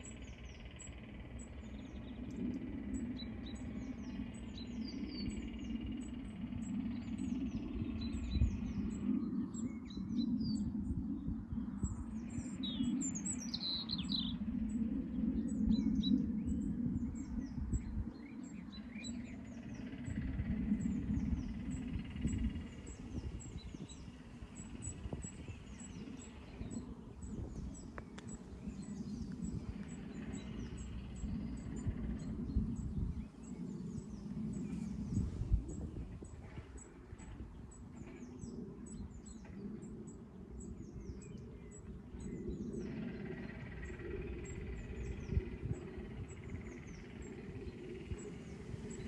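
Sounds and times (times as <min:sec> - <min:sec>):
low rumble: 0:00.0 - 0:49.0
small birds chirping: 0:00.0 - 0:49.0.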